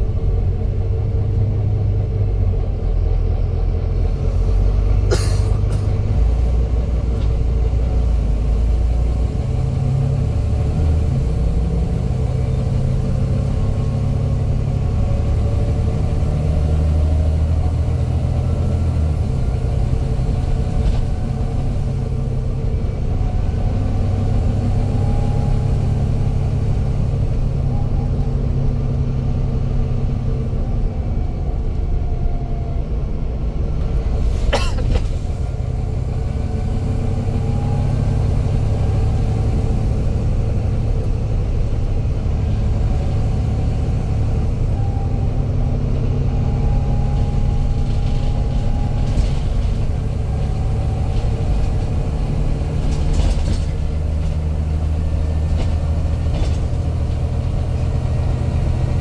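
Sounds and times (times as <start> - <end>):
bus engine rumble with whine: 0.0 - 59.0.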